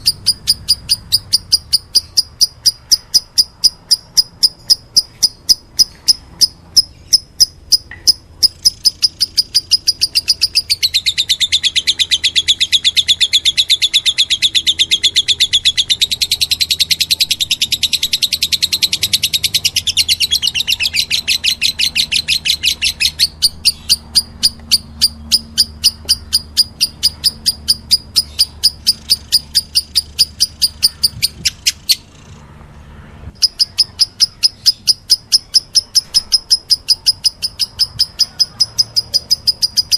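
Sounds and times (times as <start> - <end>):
bird begging chirps: 0.0 - 32.4, 33.3 - 39.9.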